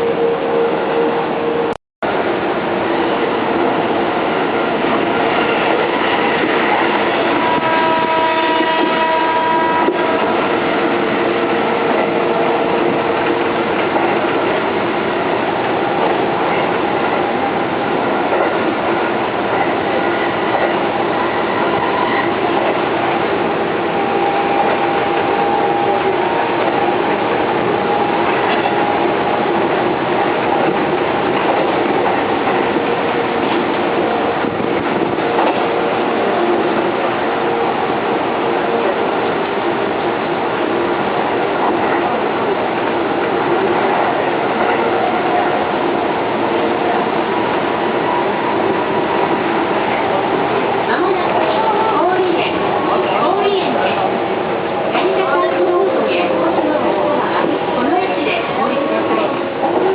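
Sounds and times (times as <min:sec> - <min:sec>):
wheels clickety-clack on rails: 0:02.1 - 0:59.9
electric train running: 0:02.3 - 0:59.9.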